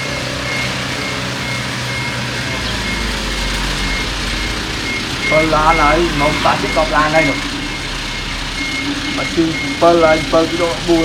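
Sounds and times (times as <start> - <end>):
back-up alarm beeping: 0.0 - 11.0
bulldozer diesel engine running: 0.0 - 11.0.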